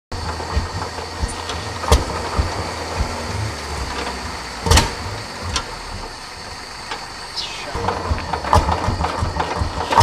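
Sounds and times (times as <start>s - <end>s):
tractor engine idling thumps: 0.1s - 10.0s.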